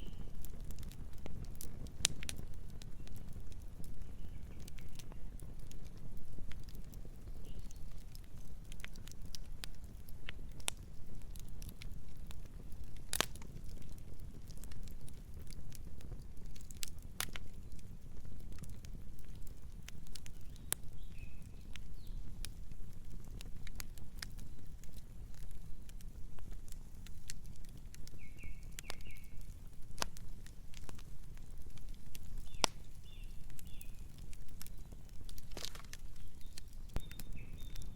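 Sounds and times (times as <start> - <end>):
burning wood crackling and popping: 0.0 - 37.9
campfire flame rushing: 0.0 - 37.9.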